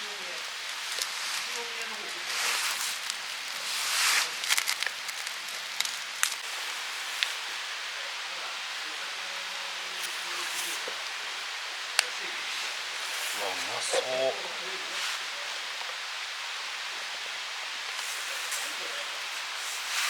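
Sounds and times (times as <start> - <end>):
campfire crackling: 0.0 - 20.0
food sizzling on a grill: 0.0 - 20.0.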